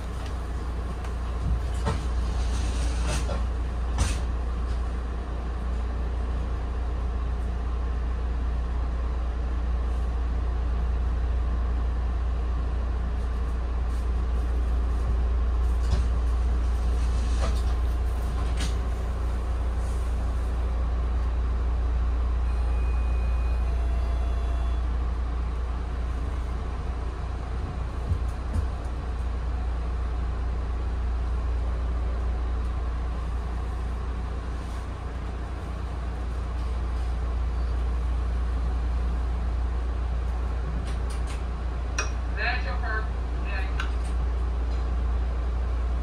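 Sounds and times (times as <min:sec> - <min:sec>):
train coach rumble: 0:00.0 - 0:46.0.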